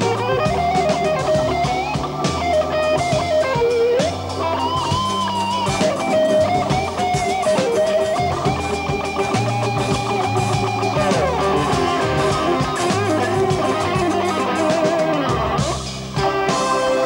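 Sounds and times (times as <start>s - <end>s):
drums: 0.0s - 17.0s
electric guitar solo: 0.0s - 17.0s
organ bass: 0.0s - 17.0s.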